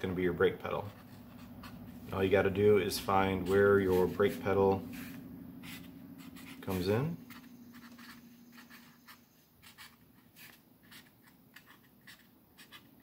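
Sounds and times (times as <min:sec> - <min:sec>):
marker scratching on cardboard: 0:00.8 - 0:13.0.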